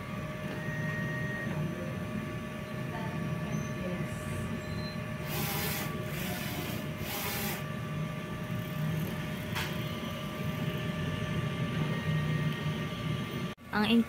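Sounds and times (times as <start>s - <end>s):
printer machine hum: 0.0s - 13.6s.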